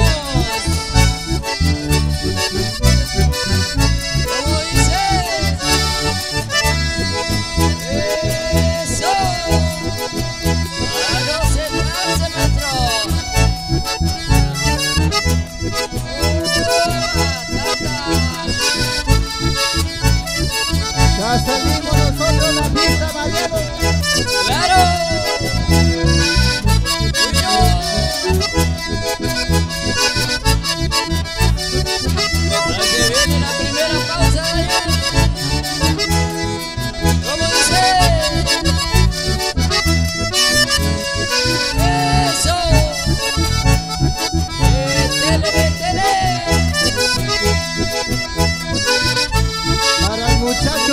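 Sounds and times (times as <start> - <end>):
bandoneon and accordion melody: 0.0 - 50.9
strummed guitar: 0.0 - 50.9.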